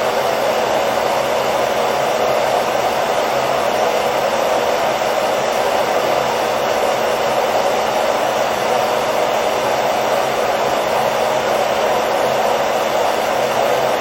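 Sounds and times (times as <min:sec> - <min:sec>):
hair dryer rushing air: 0:00.0 - 0:14.0.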